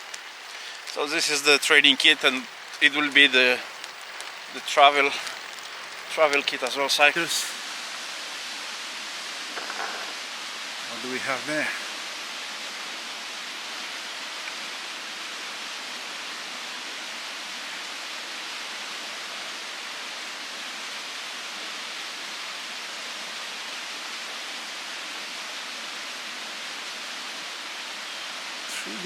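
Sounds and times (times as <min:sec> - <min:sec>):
steady rushing hiss: 0:00.0 - 0:29.0.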